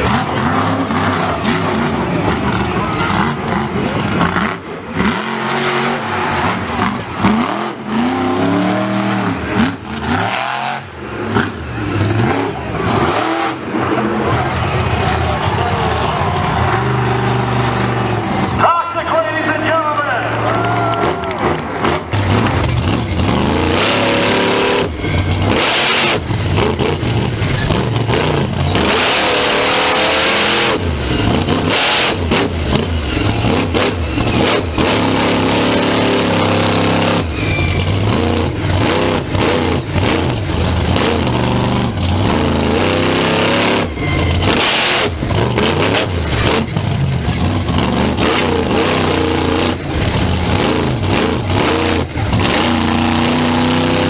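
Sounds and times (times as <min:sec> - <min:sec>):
vehicle engines revving: 0:00.0 - 0:54.0.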